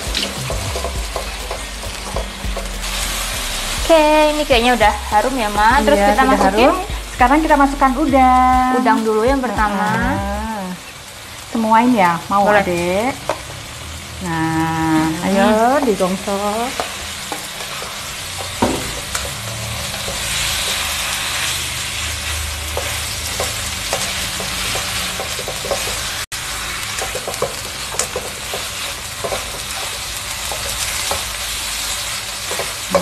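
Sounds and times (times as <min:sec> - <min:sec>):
paste sizzling in hot oil: 0:00.0 - 0:08.1, 0:10.7 - 0:33.0.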